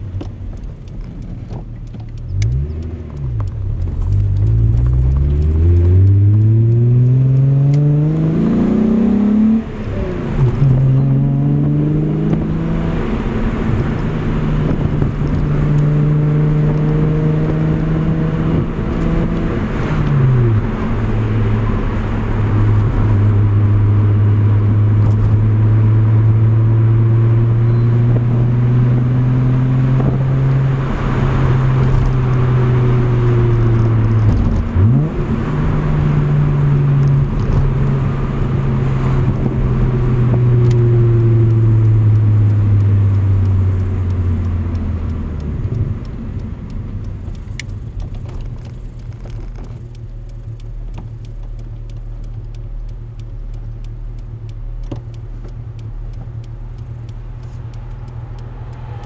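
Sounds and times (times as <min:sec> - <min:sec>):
car engine droning while driving: 0:00.0 - 0:59.0.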